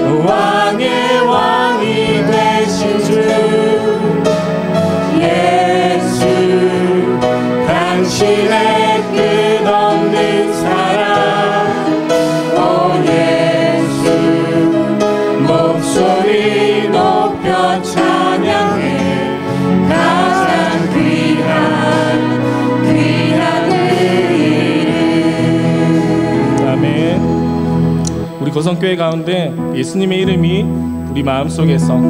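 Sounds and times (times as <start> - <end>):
voices singing together: 0.0 - 27.4.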